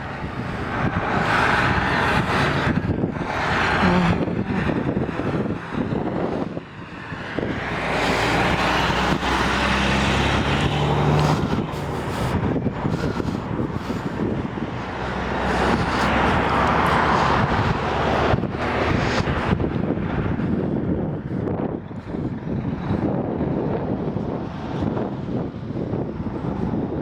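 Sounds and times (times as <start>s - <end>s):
vehicles passing: 0.0s - 27.0s
wind buffeting microphone: 0.0s - 27.0s.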